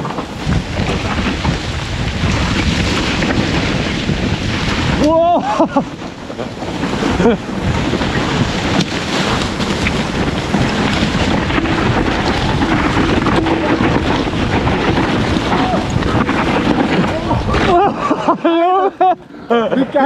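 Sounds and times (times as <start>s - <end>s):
bike tyres rattling over ground: 0.0s - 19.2s
wind buffeting microphone: 0.0s - 19.4s.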